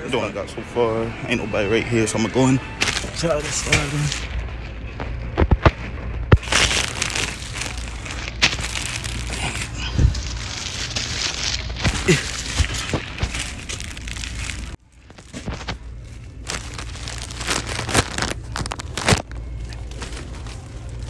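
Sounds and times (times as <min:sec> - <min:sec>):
plastic wrapping crinkling: 0:02.6 - 0:21.0.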